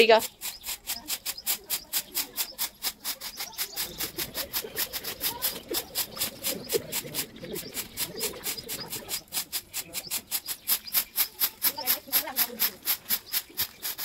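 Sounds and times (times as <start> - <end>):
broom sweeping brick floor: 0.0 - 14.0.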